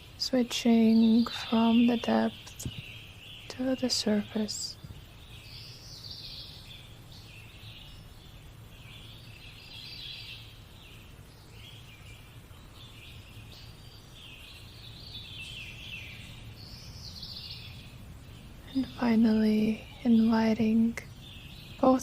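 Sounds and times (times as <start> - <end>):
birds singing and chirping: 0.0 - 22.0
steady low hum: 0.0 - 22.0.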